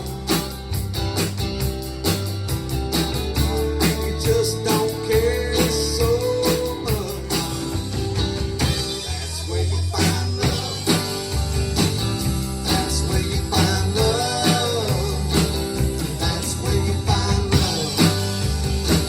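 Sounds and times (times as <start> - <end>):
live band playing a song: 0.0 - 19.0.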